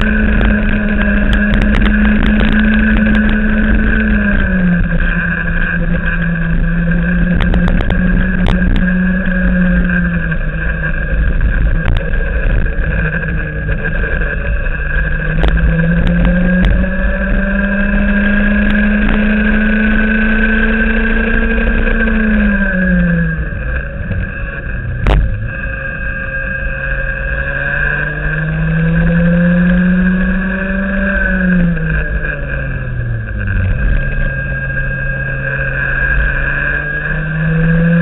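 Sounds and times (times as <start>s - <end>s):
racing kart engine: 0.0s - 38.0s.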